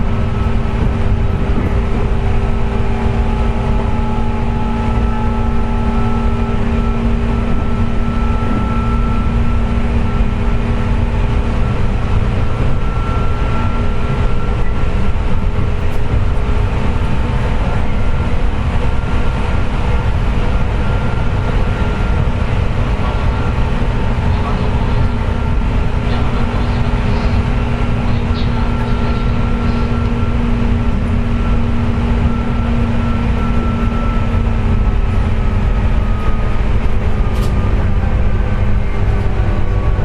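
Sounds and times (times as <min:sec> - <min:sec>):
steady motor whine: 0:00.0 - 0:40.0
train wheels rumbling on rails: 0:00.0 - 0:40.0.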